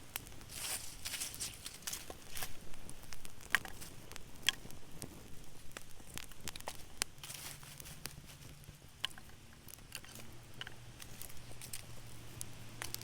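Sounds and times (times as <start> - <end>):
campfire crackling: 0.0 - 13.0
sharp snaps and pops: 0.0 - 13.0.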